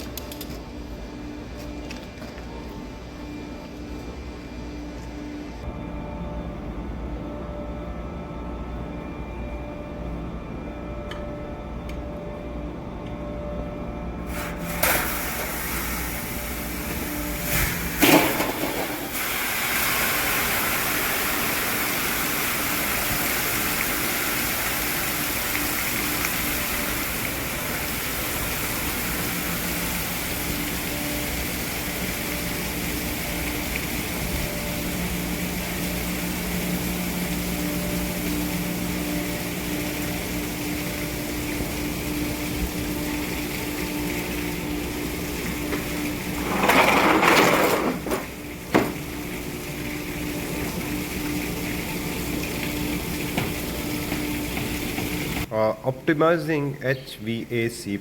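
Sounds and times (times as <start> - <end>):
machinery humming: 0.0 - 58.0.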